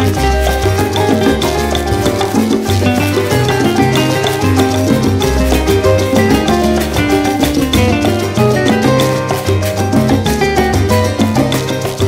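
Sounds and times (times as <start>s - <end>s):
loud music with steady beat: 0.0s - 11.8s.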